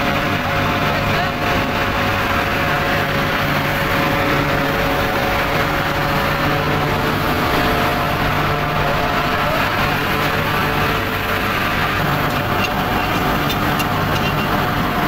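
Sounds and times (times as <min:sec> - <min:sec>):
heavy industrial machinery hum: 0:00.0 - 0:15.0
whining machine tones: 0:00.0 - 0:15.0.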